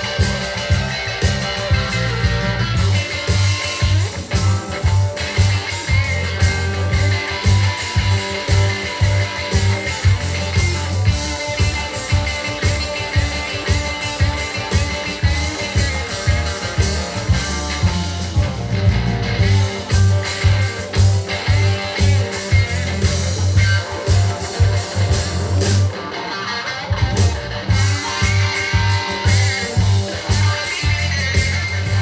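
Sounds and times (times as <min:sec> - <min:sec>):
rock music with guitar and bass: 0:00.0 - 0:32.0.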